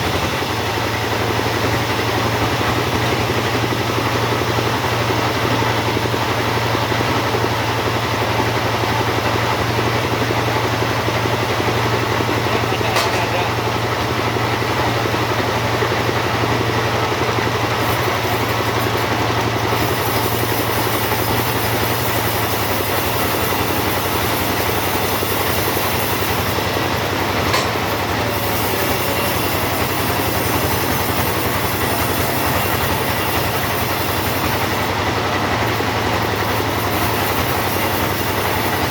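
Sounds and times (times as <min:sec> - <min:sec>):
chainsaw sawing through log: 0:00.0 - 0:38.9.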